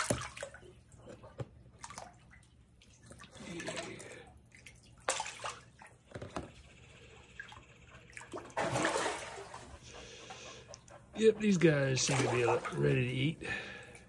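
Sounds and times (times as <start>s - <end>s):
water sloshing and splashing: 0.0s - 6.6s, 7.2s - 14.0s.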